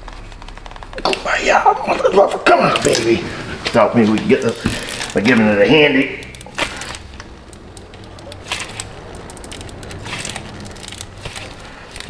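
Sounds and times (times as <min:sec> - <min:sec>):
gloved hand rustling and clicking: 0:00.0 - 0:01.2, 0:02.0 - 0:12.0
low hum: 0:00.0 - 0:12.0.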